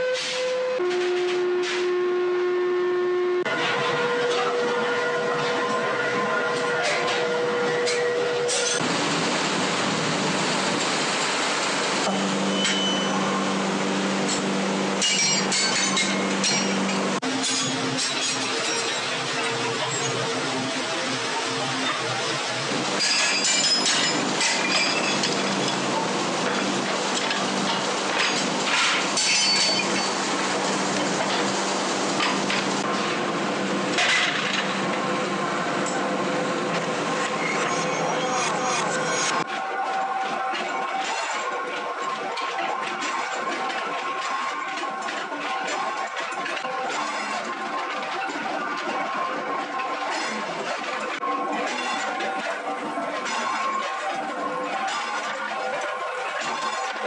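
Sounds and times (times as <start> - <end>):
foundry machinery roaring: 0.0 - 57.0.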